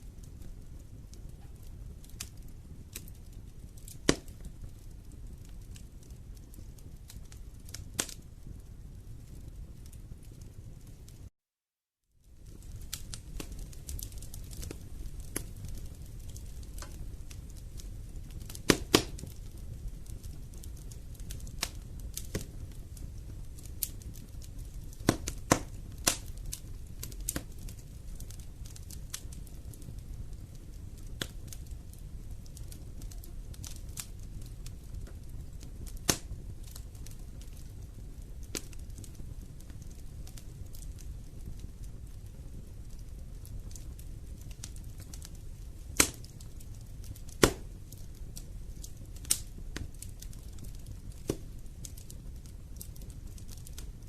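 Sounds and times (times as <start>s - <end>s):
wood fire crackling: 0.0s - 11.3s, 12.2s - 54.0s.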